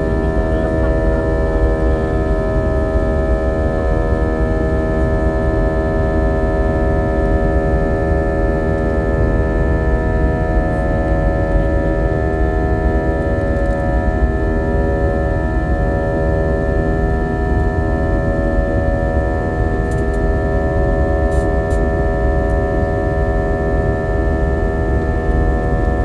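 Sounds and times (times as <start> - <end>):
jet engine drone in cabin: 0.0 - 26.0.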